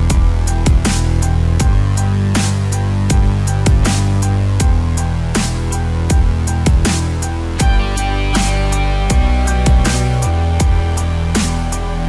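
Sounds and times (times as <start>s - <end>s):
deep kick drums: 0.0s - 11.9s.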